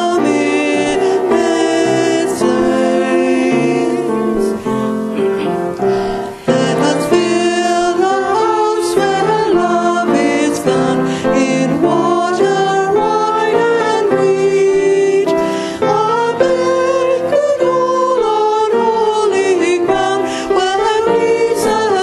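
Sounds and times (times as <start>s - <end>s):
hymn singing: 0.0s - 22.0s
piano accompaniment: 0.0s - 22.0s.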